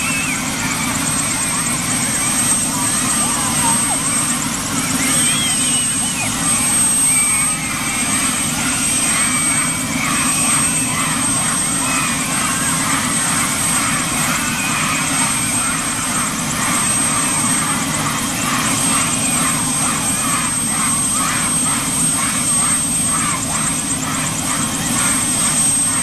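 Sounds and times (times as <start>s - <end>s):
helicopter turbine engine running: 0.0s - 26.0s
high turbine whine: 0.0s - 26.0s.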